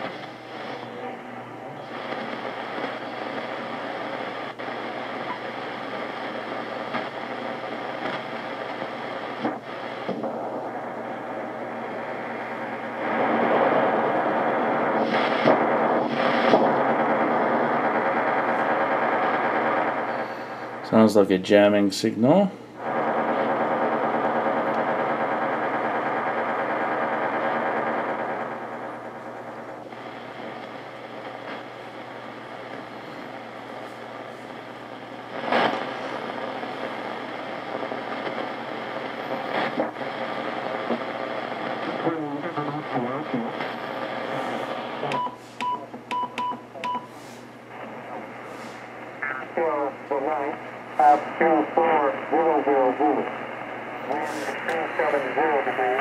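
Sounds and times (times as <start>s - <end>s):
radio jamming noise signal: 0.0s - 56.0s.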